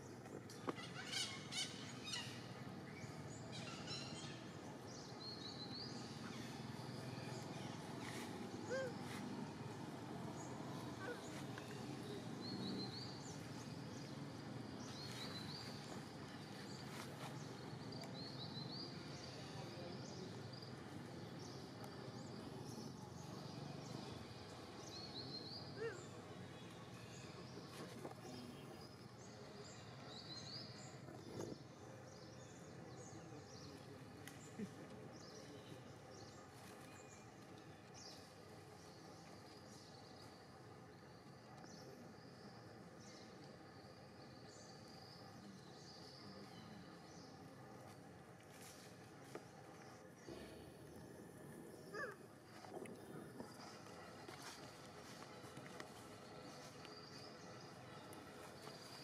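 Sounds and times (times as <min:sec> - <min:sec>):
outdoor background hiss: 0:00.0 - 0:59.0.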